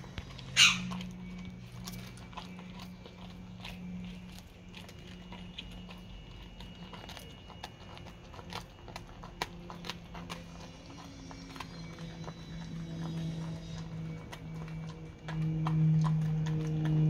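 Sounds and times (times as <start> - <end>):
dog chewing bone: 0.0 - 17.0
low hum: 0.0 - 17.0.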